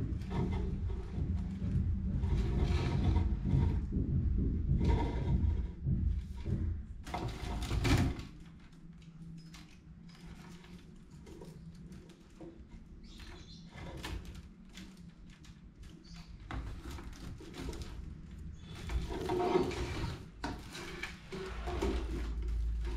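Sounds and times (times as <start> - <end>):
rattan basket creaking and clicking: 0.0 - 4.0, 4.7 - 22.9.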